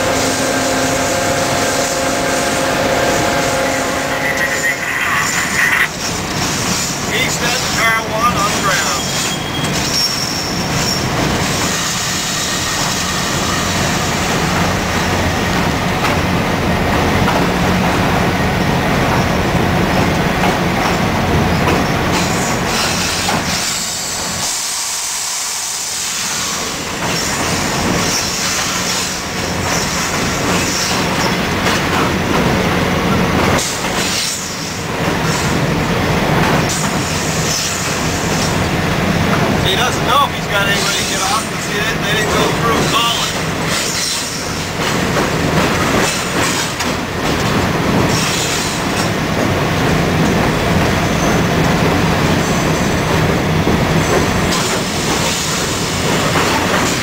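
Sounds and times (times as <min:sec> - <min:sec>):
diesel locomotive engine running: 0:00.0 - 0:57.0
wheel and rail noise: 0:00.0 - 0:57.0.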